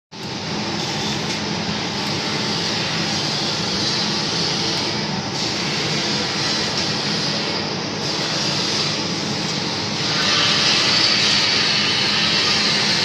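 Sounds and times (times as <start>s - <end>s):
machine tool whirring with hiss: 0.2s - 13.0s.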